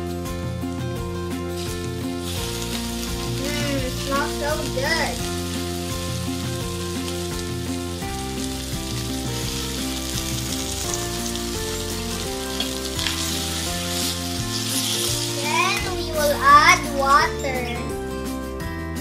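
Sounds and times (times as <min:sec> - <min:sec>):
background music: 0:00.0 - 0:19.0
food sizzling in a pan: 0:01.5 - 0:17.7.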